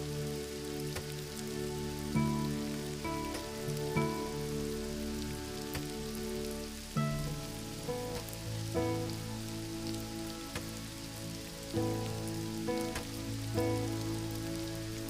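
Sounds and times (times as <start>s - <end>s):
rain hiss: 0.0s - 15.0s
soft slow background music: 0.0s - 15.0s
water drips: 0.0s - 15.0s.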